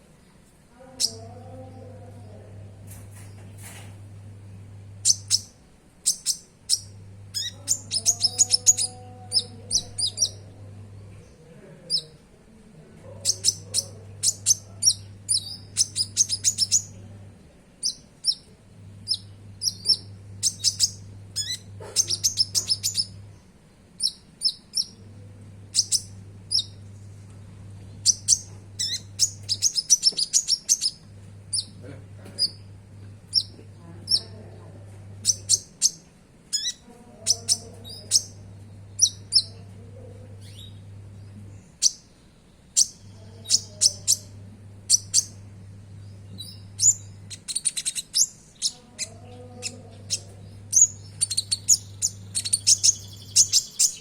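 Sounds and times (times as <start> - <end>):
low hum: 0.0 - 36.5, 37.4 - 54.0
bird chirping and trilling: 0.9 - 2.6, 4.9 - 12.2, 13.1 - 17.0, 17.8 - 25.1, 25.7 - 27.1, 27.9 - 31.8, 32.4 - 34.4, 35.2 - 54.0.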